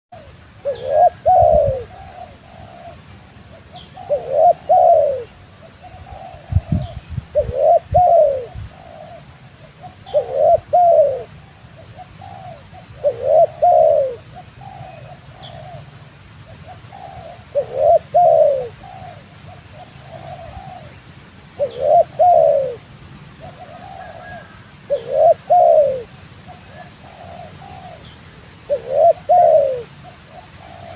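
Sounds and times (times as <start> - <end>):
dove cooing: 0.2 - 21.0, 21.6 - 30.9.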